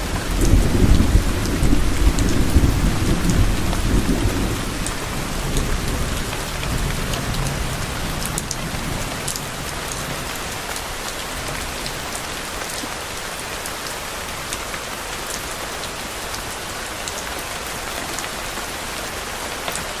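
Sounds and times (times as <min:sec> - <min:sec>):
raindrops ticking on a surface: 0:00.0 - 0:20.0
steady rain hiss: 0:00.0 - 0:20.0.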